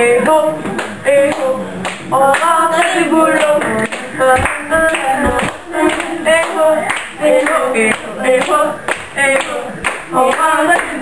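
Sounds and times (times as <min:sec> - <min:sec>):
girls singing together: 0:00.0 - 0:11.0
hand claps: 0:00.8 - 0:11.0.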